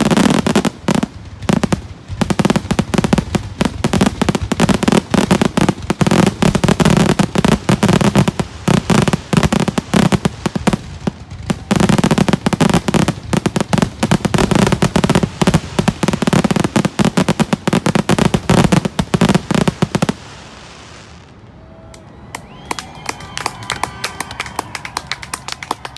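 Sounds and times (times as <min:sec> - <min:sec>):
fireworks bursting and crackling: 0:00.0 - 0:25.9.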